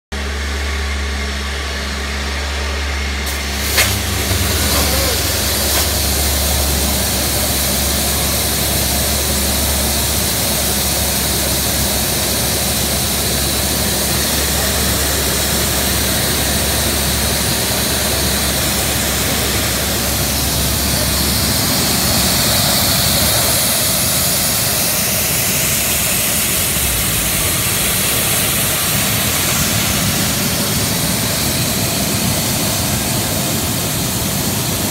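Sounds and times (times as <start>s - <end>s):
low hum: 0.2s - 34.9s
smoke machine blasting fog: 0.2s - 34.9s.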